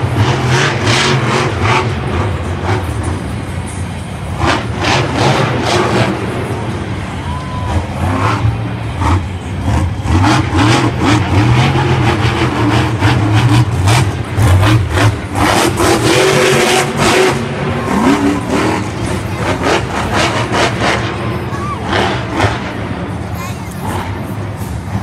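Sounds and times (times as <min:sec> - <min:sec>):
truck engine revving with crackles: 0:00.0 - 0:25.0.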